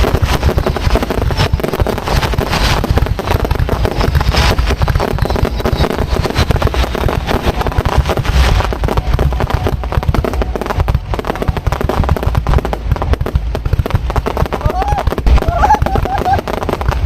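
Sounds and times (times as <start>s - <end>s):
fireworks bangs and booming: 0.0s - 17.0s.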